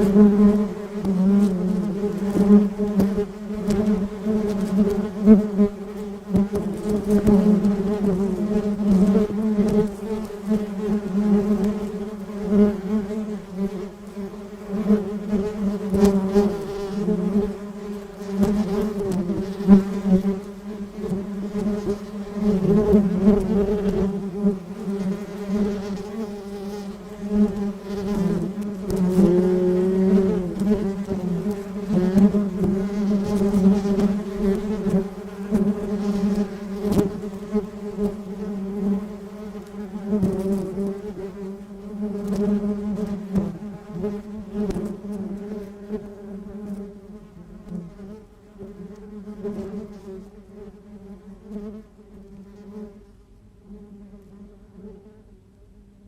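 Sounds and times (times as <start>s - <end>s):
bee buzzing: 0.0s - 51.8s.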